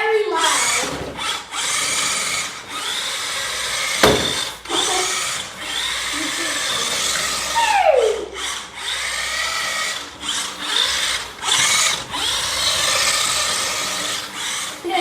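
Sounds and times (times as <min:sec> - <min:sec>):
toy car motor whining: 0:00.0 - 0:15.0.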